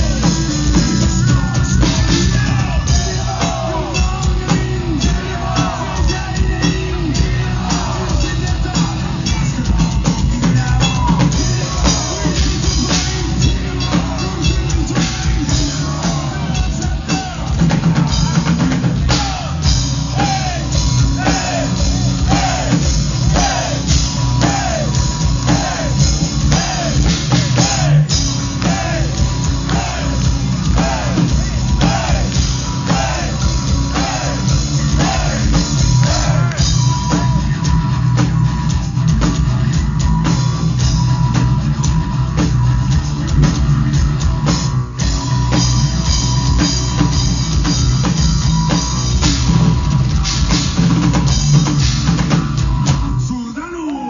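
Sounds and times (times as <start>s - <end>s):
distorted electric guitar: 0.0s - 53.6s
drum kit: 0.0s - 53.6s
folk metal band playing live: 0.0s - 53.8s.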